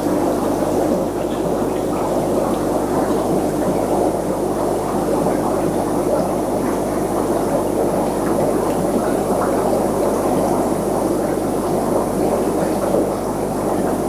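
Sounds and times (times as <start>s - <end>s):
aquarium water bubbling: 0.0s - 14.0s.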